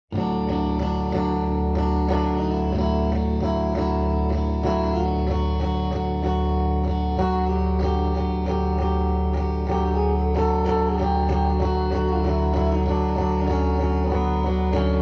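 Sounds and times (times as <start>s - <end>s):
electric guitar picking notes: 0.1s - 15.0s.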